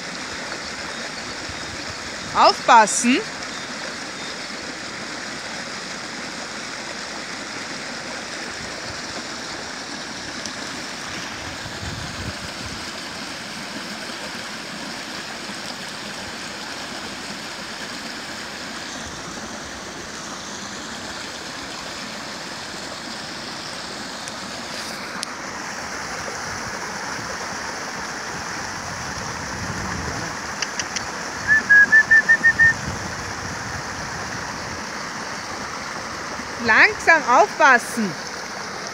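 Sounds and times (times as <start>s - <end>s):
water rushing over waterfall: 0.0s - 38.9s.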